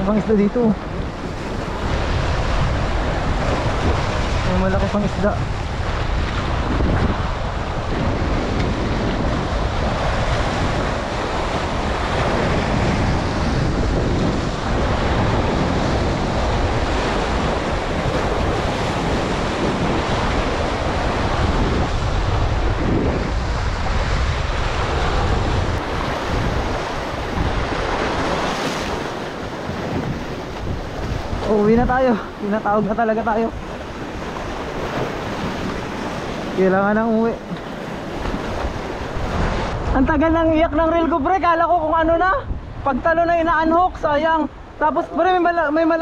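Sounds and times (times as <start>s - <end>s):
surf washing on shore: 0.0s - 46.0s
wind buffeting microphone: 0.0s - 46.0s.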